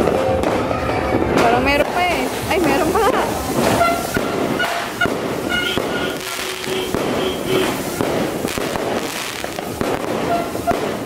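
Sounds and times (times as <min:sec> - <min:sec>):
firework sputtering hiss: 0:01.5 - 0:11.0.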